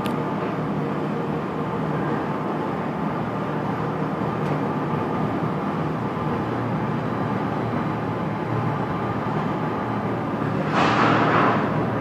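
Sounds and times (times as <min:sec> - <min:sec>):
heavy machinery drone: 0:00.0 - 0:12.0.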